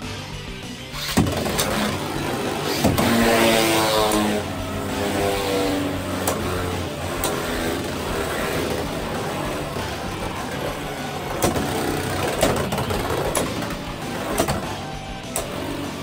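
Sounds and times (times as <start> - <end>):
spinning tops whirring: 0.9 - 16.0.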